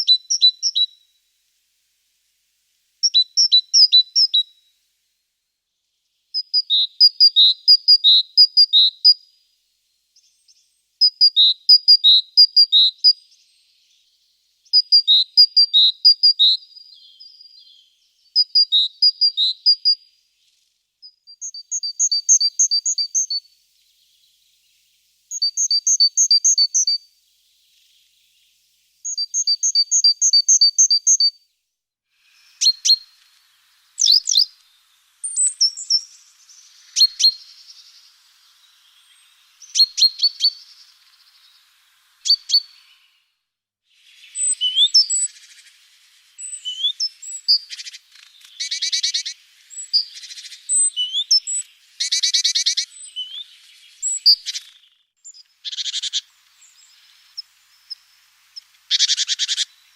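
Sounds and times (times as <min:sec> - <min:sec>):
small songbird singing: 0:00.0 - 0:04.9, 0:05.6 - 0:59.9.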